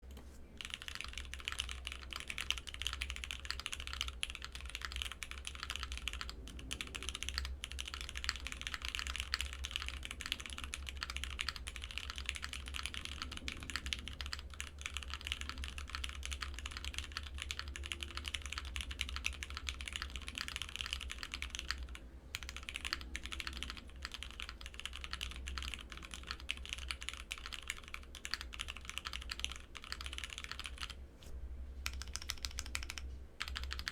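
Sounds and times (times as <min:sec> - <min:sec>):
typing on mechanical keyboard: 0:00.6 - 0:31.0, 0:31.8 - 0:33.9.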